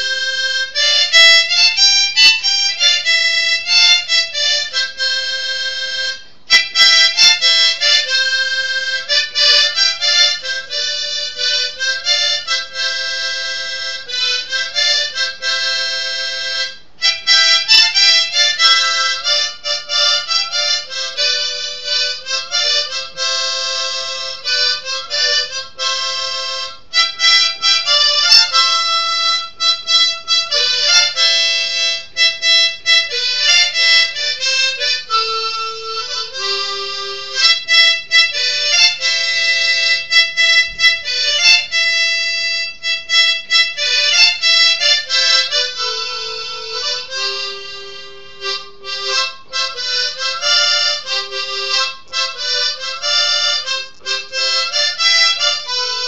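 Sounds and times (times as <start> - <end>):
solo harmonica melody: 0.0 - 56.0.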